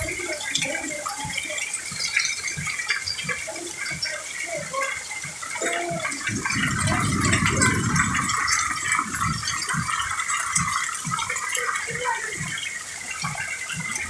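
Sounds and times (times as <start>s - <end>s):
heavy rain pouring: 0.0s - 14.0s
runoff water gurgling: 0.0s - 14.0s.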